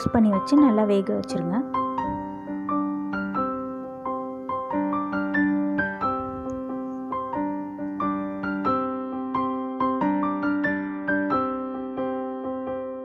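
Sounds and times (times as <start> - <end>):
slow gentle piano melody: 0.0 - 13.0.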